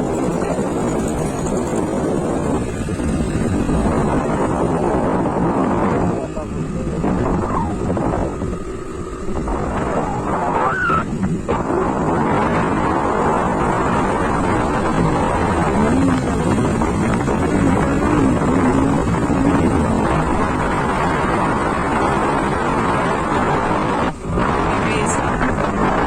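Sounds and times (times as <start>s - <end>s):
scooter engine running: 0.0s - 26.0s
wind rushing over microphone: 0.0s - 26.0s.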